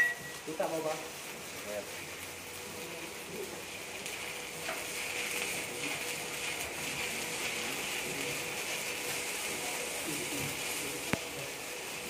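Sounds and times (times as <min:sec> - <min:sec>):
welding arc crackling: 0:00.0 - 0:12.0.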